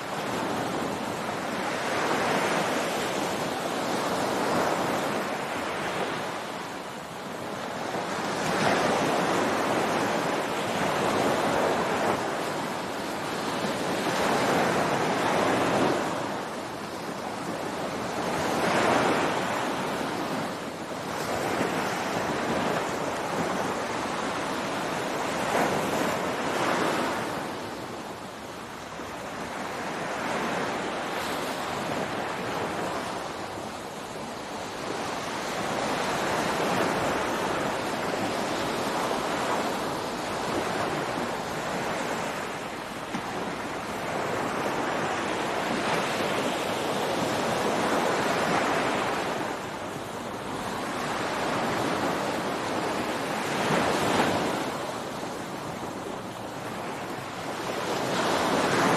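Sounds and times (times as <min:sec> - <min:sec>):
waves breaking on a beach: 0:00.0 - 0:58.9.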